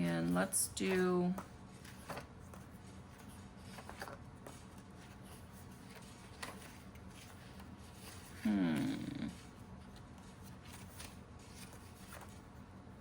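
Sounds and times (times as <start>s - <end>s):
paper money handling: 0.0s - 13.0s.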